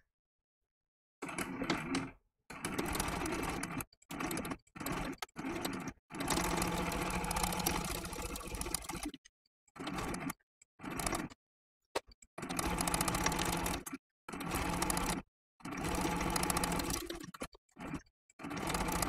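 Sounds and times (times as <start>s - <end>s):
sewing machine stitching: 1.2s - 11.4s, 12.4s - 19.0s.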